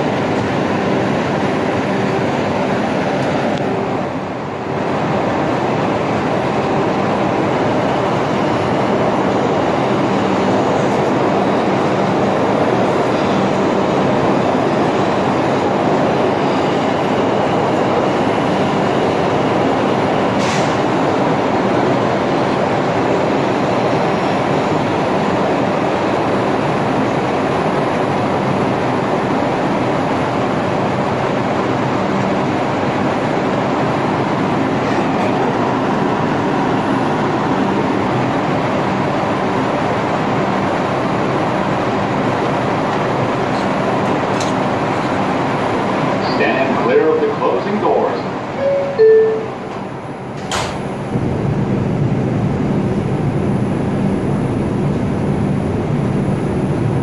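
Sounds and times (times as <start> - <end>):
subway train in tunnel: 0.0 - 57.0.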